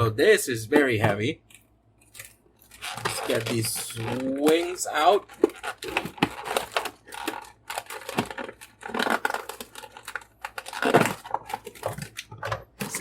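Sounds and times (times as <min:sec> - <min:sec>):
plastic packaging crinkling: 0:02.0 - 0:13.0.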